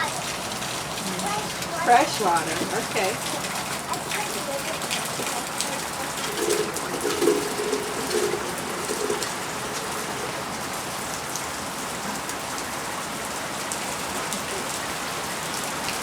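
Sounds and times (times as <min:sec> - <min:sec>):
raindrops ticking: 0:00.0 - 0:14.8
steady rain hiss: 0:00.0 - 0:16.0.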